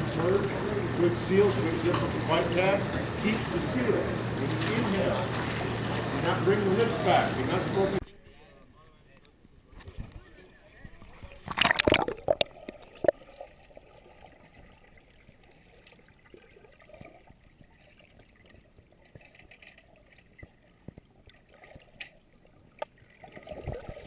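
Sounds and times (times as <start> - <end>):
faint pool water noise: 0.0 - 24.0.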